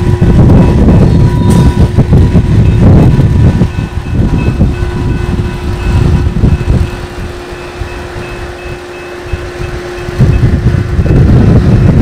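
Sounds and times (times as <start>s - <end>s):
steady tone: 0.0s - 11.3s
locomotive rumbling past: 0.0s - 12.0s.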